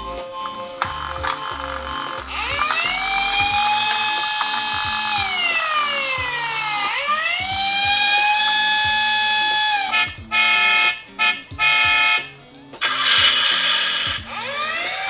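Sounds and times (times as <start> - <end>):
background music: 0.0 - 15.0
toy electronic siren: 0.0 - 15.0.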